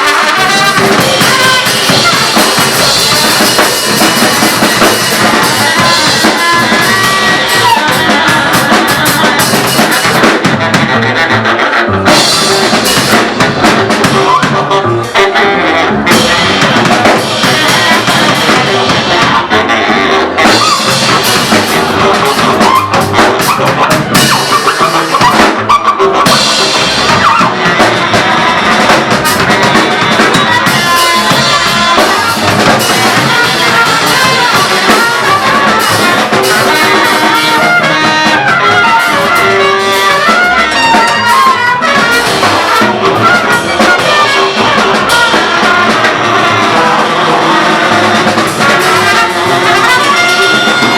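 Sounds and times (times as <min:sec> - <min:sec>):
brass horns: 0:00.0 - 0:50.9
drum kit: 0:00.0 - 0:50.9
live rock band playing: 0:00.0 - 0:50.9.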